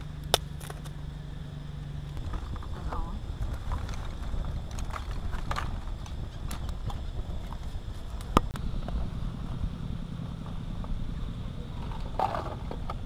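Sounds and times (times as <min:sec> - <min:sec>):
wind rumble on microphone: 0:01.6 - 0:13.0.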